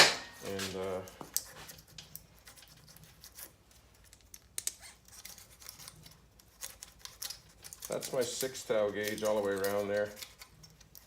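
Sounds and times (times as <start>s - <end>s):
feeler gauge clicking and scraping: 0.4s - 11.0s.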